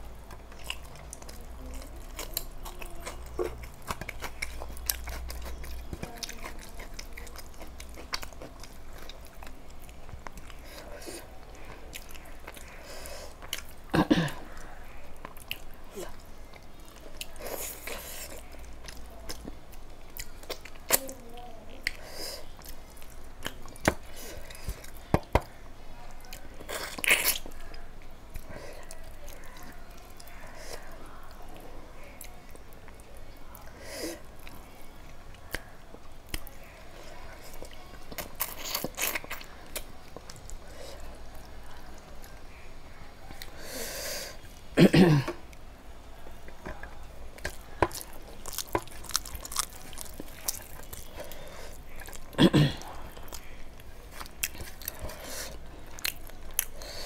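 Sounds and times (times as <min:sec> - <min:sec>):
person chewing food: 0:00.0 - 0:21.2, 0:21.8 - 0:25.5, 0:26.1 - 0:42.5, 0:46.2 - 0:57.0.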